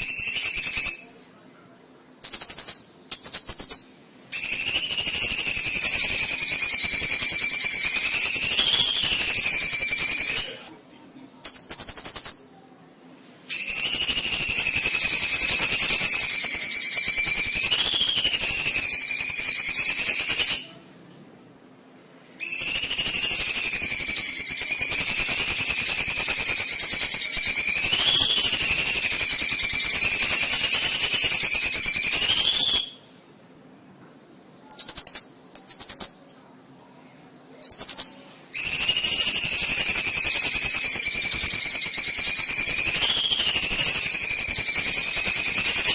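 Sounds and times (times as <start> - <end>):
bird singing rattling trill: 0.0 - 1.2, 2.2 - 10.7, 11.4 - 12.6, 13.5 - 21.0, 22.4 - 33.2, 34.7 - 36.4, 37.6 - 45.9
high buzzing bird trill: 0.0 - 1.2, 2.2 - 10.7, 11.4 - 12.7, 13.5 - 21.0, 22.4 - 33.2, 34.7 - 36.4, 37.6 - 45.9.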